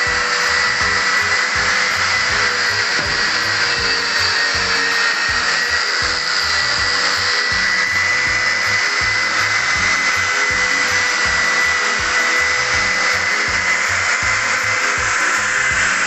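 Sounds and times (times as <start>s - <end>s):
background music with a beat: 0.0s - 16.0s
electric sander on plaster: 0.0s - 16.0s.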